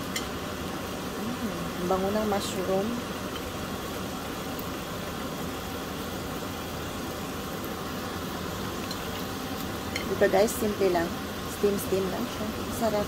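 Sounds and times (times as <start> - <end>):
water boiling hard: 0.0 - 13.0.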